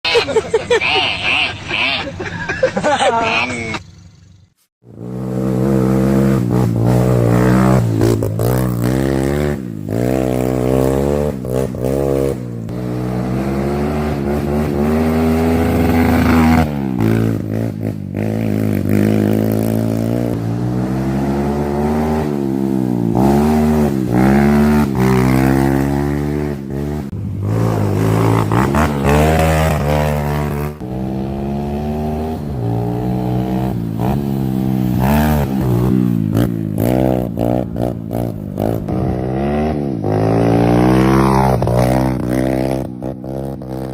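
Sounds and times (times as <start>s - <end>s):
motorcycle engine revving: 3.3s - 43.9s.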